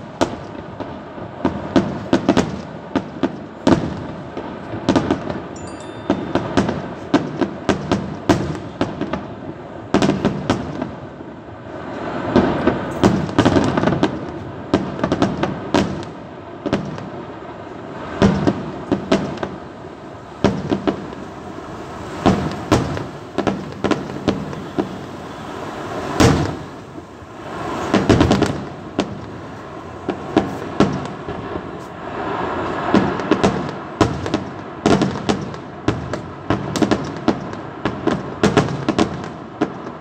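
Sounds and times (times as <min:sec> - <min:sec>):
firecracker bangs and explosions: 0:00.0 - 0:40.0.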